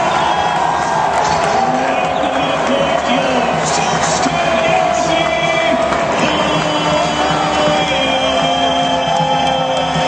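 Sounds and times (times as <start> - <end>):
crowd cheering and shouting: 0.0 - 10.0.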